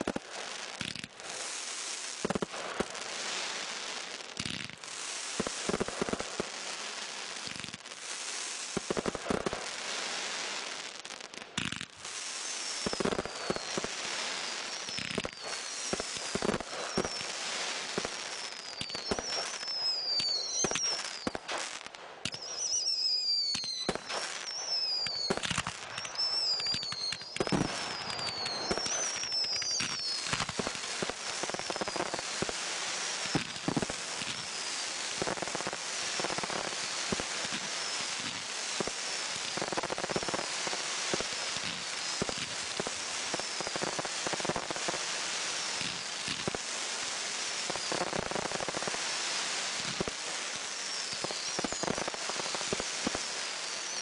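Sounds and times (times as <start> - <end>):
fireworks bangs: 0.0 - 54.0
fireworks crackling: 0.0 - 54.0
fireworks whistles sliding down: 0.0 - 54.0.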